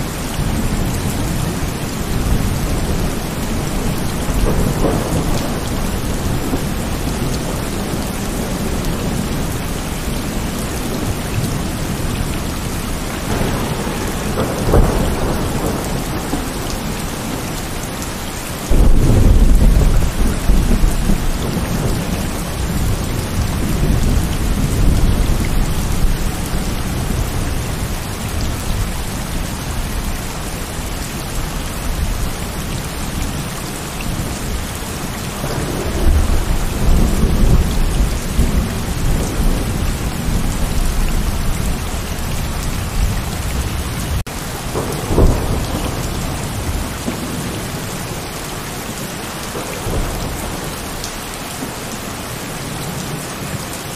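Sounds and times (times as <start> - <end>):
thunder rumbling: 0.0 - 51.7
heavy rain: 0.0 - 53.9.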